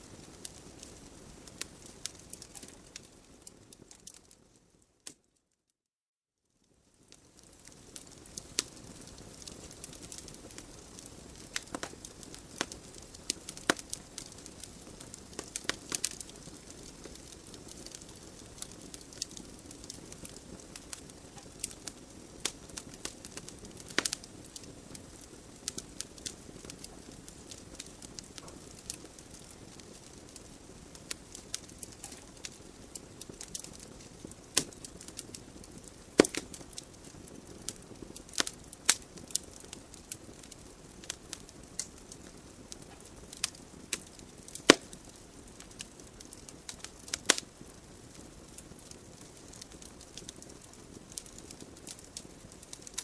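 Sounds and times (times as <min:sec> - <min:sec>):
wood fire crackling: 0:00.0 - 0:05.4, 0:06.6 - 0:53.0.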